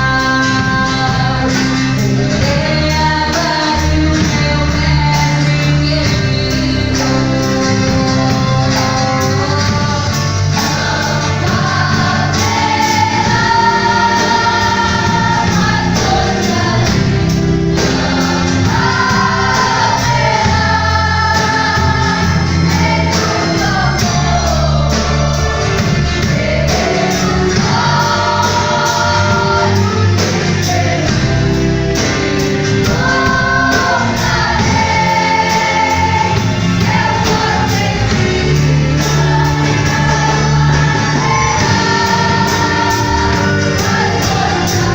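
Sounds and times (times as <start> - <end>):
band accompaniment: 0.0 - 44.9
choir singing gospel: 0.0 - 44.9.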